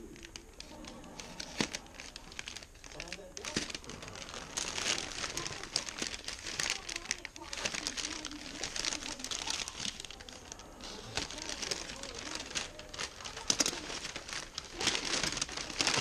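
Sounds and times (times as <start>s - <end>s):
paper wrapping crinkling: 0.0s - 16.0s.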